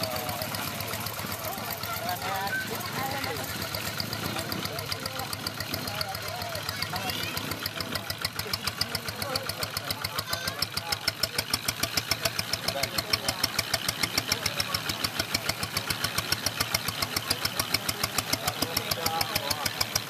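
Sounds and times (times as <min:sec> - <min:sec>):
boat engine knocking: 0:00.0 - 0:20.0.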